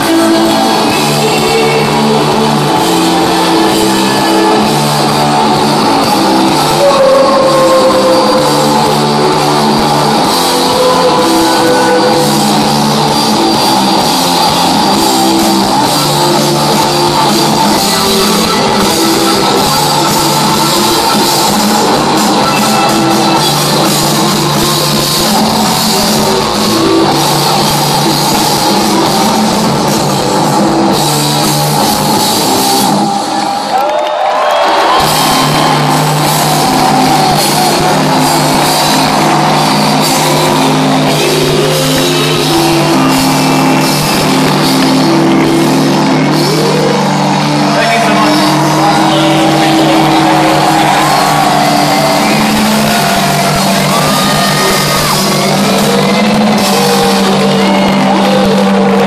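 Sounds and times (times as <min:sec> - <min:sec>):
drum kit beat: 0:00.0 - 0:33.5, 0:34.6 - 0:59.0
bass and guitar riff: 0:00.0 - 0:59.0
rock band playing live: 0:00.0 - 0:59.0.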